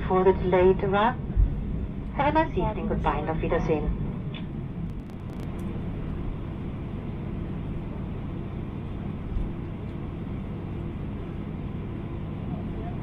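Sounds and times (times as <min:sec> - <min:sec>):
faint steady hum: 0:00.0 - 0:13.0
jet engines idling rumble: 0:00.0 - 0:13.0.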